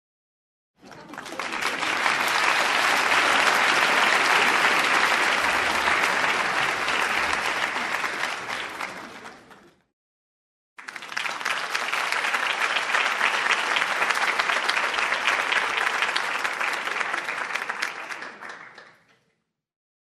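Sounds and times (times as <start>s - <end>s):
audience applauding: 0.8s - 9.9s, 10.8s - 19.2s.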